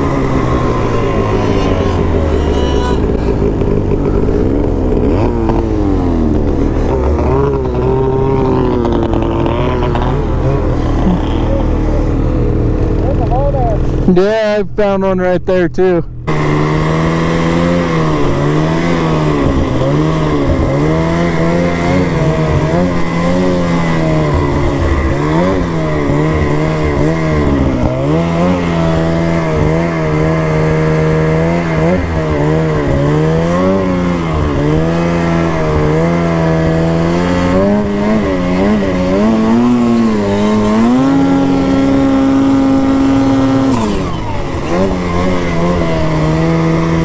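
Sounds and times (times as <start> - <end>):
snowmobile engine revving: 0.0 - 47.0.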